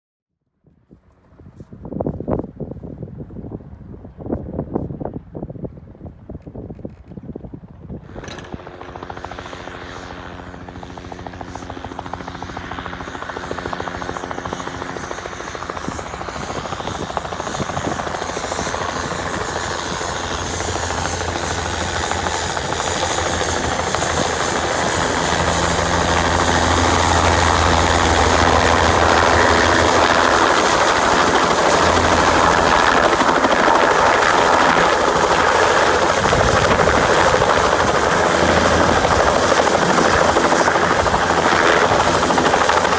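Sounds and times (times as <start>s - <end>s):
helicopter rotor and turbine: 0.8s - 42.9s.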